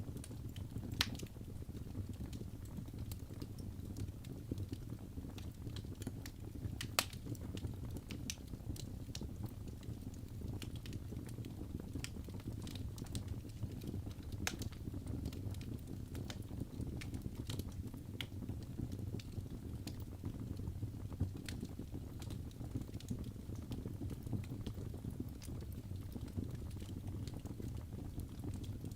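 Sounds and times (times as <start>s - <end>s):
wood crackling and popping: 0.0s - 28.9s.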